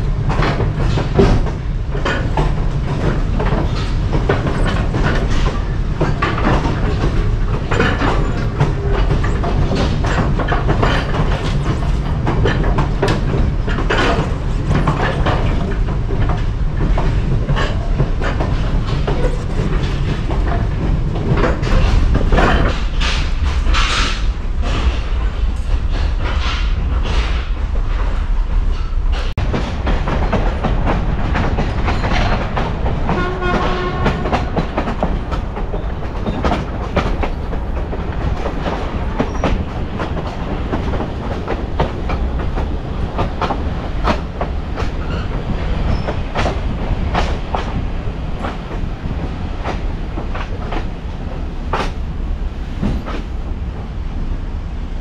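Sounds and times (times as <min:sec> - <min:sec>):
wheels clacking over rails: 0:00.0 - 0:53.4
train rumbling: 0:00.0 - 0:55.0.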